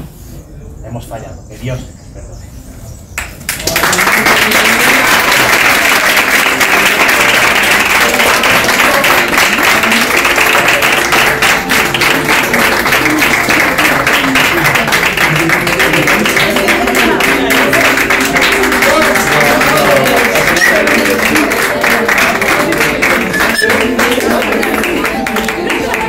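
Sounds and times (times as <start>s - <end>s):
audience applauding: 3.5s - 26.0s.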